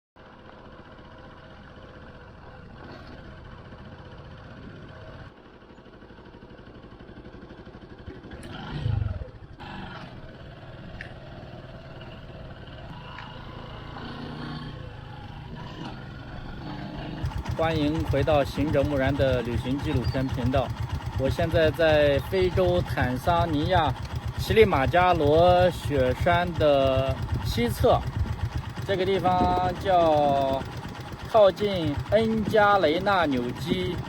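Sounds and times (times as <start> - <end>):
motorcycle engine running: 0.2 - 34.0.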